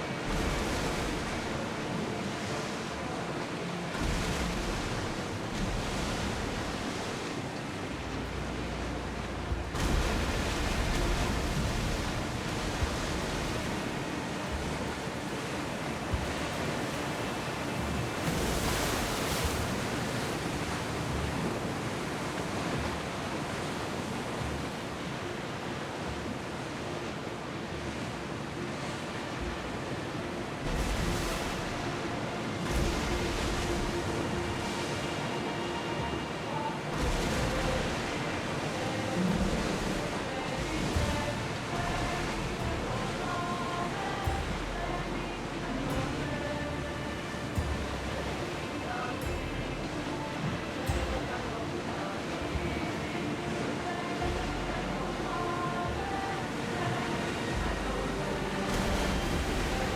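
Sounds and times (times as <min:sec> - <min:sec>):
sea water rushing past ship: 0:00.0 - 0:59.9
wind: 0:00.0 - 0:59.9.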